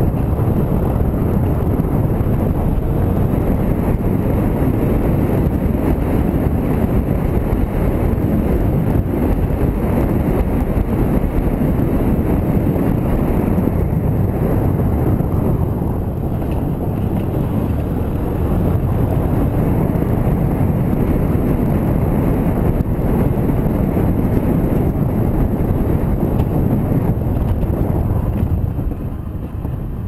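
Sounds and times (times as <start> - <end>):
motorcycle running: 0.0 - 30.0
wind noise on microphone: 0.0 - 30.0.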